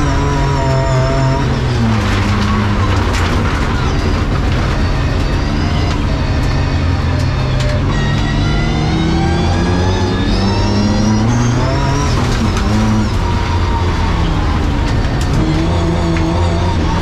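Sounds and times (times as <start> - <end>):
knocks and rattles: 0.0 - 8.4, 11.2 - 17.0
race car engine revving: 0.0 - 17.0.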